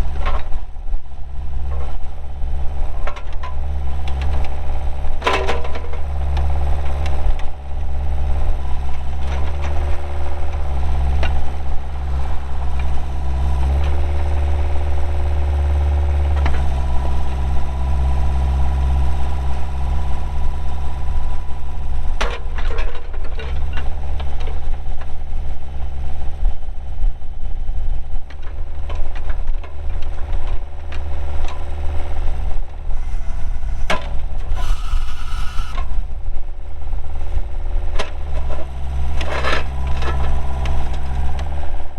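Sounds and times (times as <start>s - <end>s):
mini excavator diesel engine: 0.0s - 41.9s.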